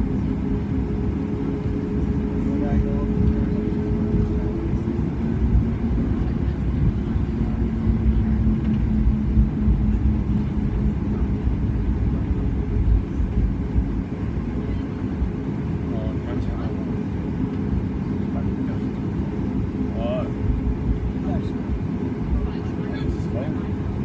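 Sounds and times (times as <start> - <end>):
aircraft cabin low rumble: 0.0 - 24.0.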